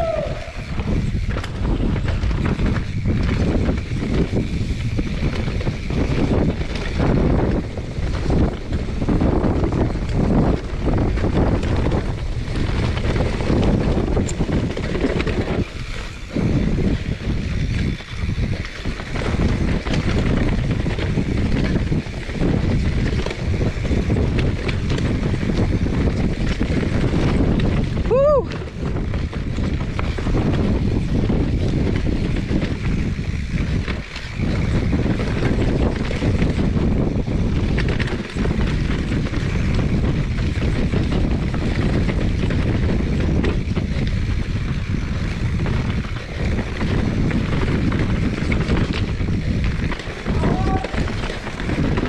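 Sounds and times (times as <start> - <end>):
bike tyre rumble on dirt trail: 0.0 - 52.0
wind buffeting microphone: 0.0 - 52.0.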